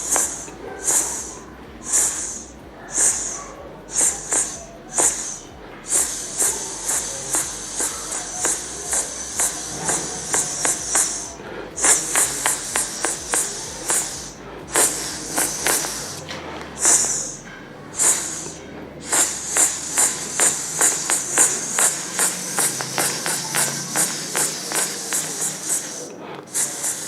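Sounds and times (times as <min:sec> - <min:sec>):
mouth imitating ankle bells: 0:00.0 - 0:27.0.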